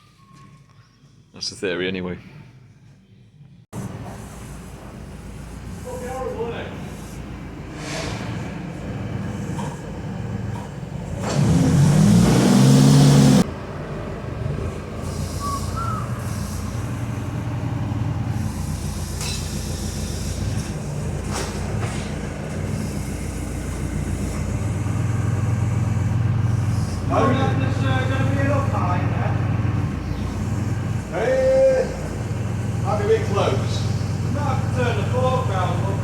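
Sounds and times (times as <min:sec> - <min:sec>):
vehicle engine revving: 0:03.8 - 0:36.0.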